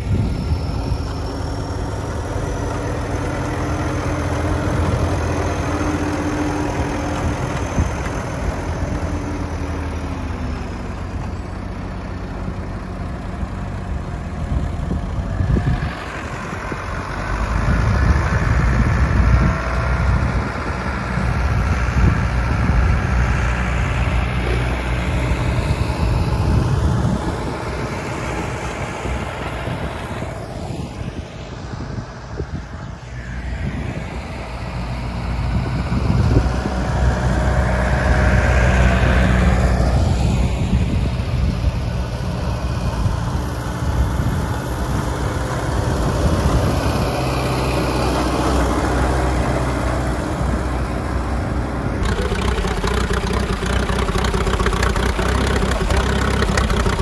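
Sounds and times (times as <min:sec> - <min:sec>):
diesel tractor engines running: 0:00.0 - 0:57.0.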